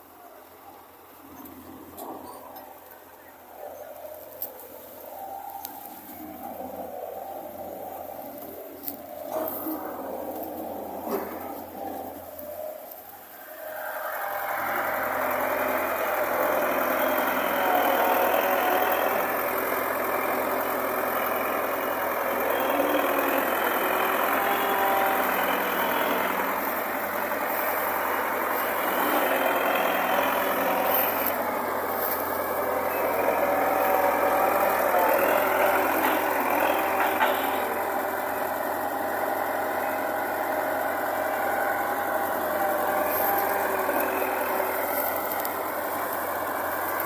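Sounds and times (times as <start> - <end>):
farm machine engine running: 0.0 - 47.0.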